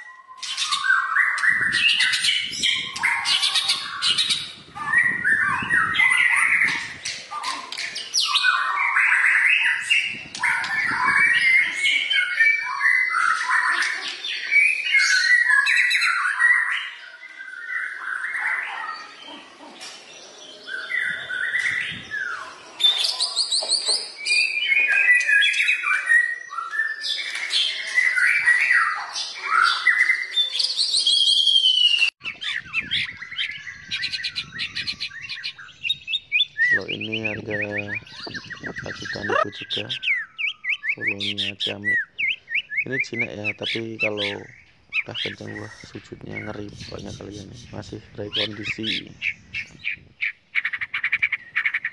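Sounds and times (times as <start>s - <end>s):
songbird whistling and trilling: 0.0s - 19.2s, 20.4s - 47.0s.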